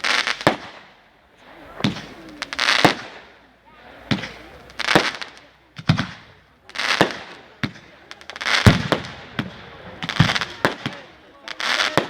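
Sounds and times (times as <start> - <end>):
firework shells bursting: 0.0 - 3.4, 4.0 - 12.0.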